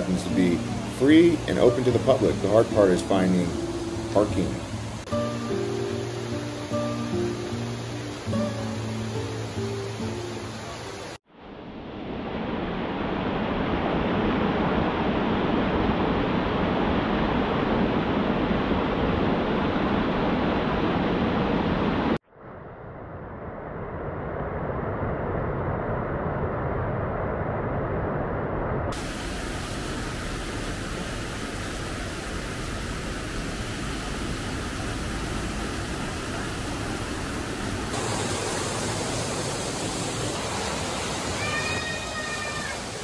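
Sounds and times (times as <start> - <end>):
water rushing over rocks: 0.0 - 11.2, 12.0 - 22.2, 29.0 - 43.0.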